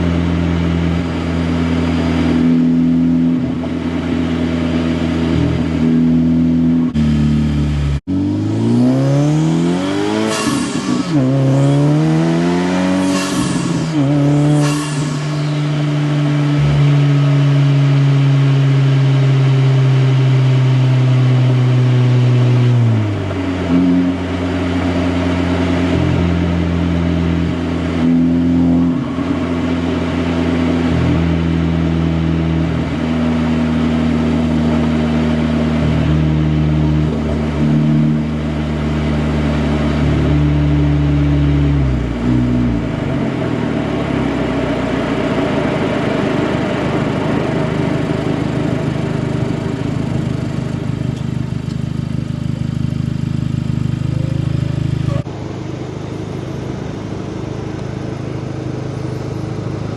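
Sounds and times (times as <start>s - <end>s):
car engine deep exhaust drone: 0.0s - 59.9s.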